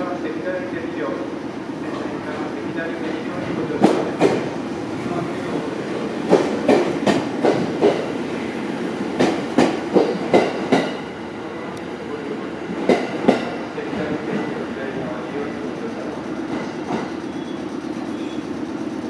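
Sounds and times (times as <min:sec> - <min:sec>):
electric train rumbling: 0:00.0 - 0:19.0
train wheels clicking over rail joints: 0:00.4 - 0:12.0, 0:12.6 - 0:19.0.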